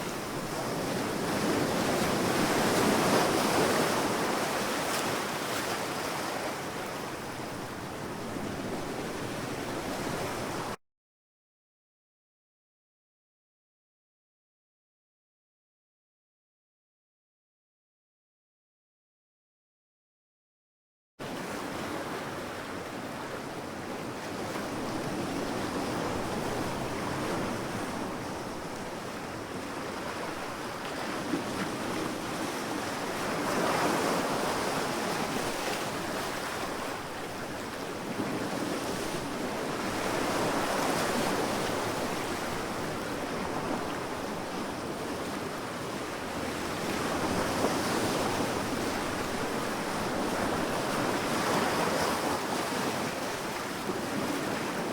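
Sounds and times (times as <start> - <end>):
sea waves surging onto beach: 0.0 - 10.8, 21.2 - 54.9.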